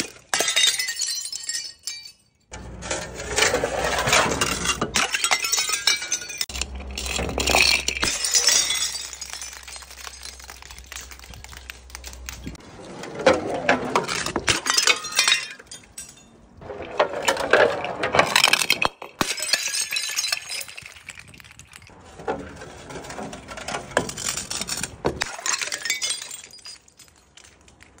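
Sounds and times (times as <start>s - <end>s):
glass shards clinking: 0.0s - 12.6s, 14.0s - 16.6s, 17.2s - 21.6s, 23.6s - 28.0s
glass smashing on stone: 0.0s - 12.6s, 14.0s - 16.6s, 18.2s - 22.0s, 24.0s - 28.0s.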